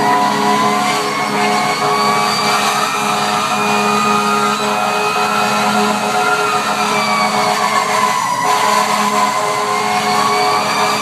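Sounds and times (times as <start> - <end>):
pulsing lower siren tone: 0.0 - 11.0
truck engine running: 0.0 - 11.0
wailing siren: 0.0 - 11.0.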